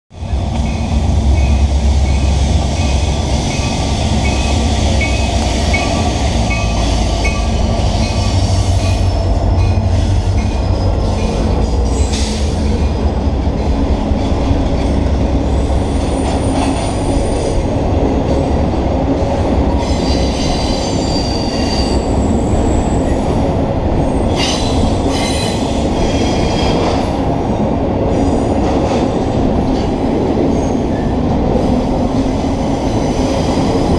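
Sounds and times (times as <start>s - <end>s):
diesel locomotive engine rumble: 0.1s - 33.9s
train wheels rumbling and clattering: 0.1s - 33.9s.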